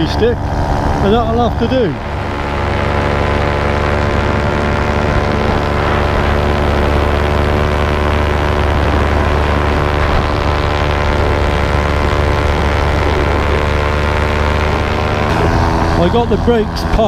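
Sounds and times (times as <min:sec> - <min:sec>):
paramotor engine drone: 0:00.0 - 0:17.0.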